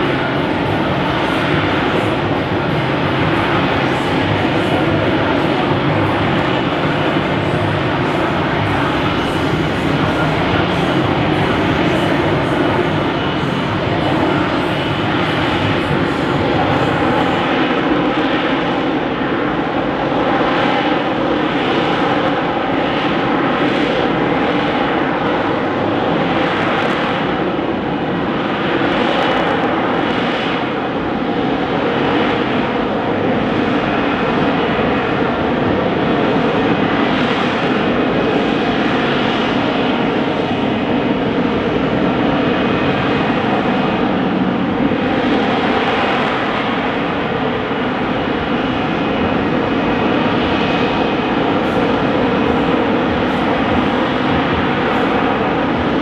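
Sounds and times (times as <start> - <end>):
jet engine roaring with whine: 0.0 - 56.0.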